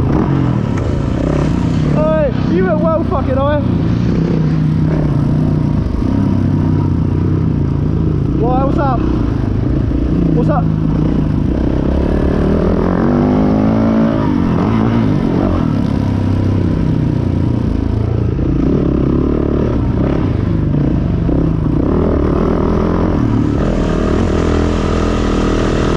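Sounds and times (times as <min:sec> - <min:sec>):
dirt bike engine revving: 0:00.0 - 0:25.9.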